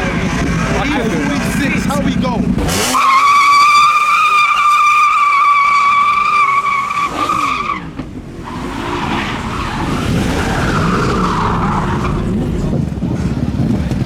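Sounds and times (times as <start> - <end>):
car engine revving: 0.0 - 14.0
car tyres squealing: 0.0 - 14.0.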